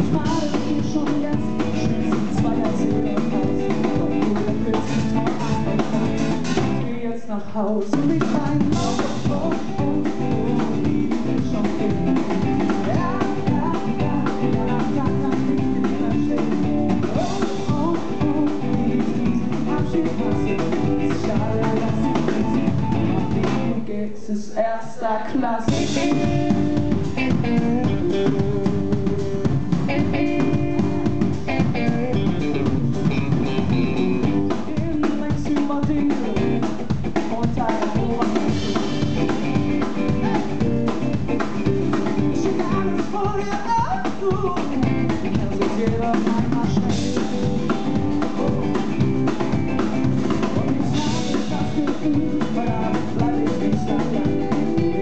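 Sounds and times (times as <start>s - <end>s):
pop-rock band playing: 0.0s - 7.0s, 7.8s - 23.9s, 25.7s - 55.0s.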